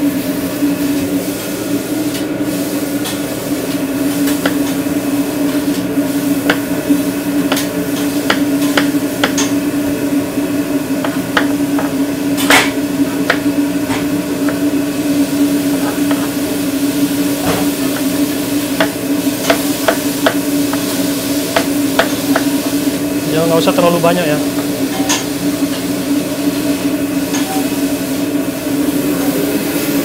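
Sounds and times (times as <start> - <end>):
low hum of kitchen equipment: 0.0 - 30.0.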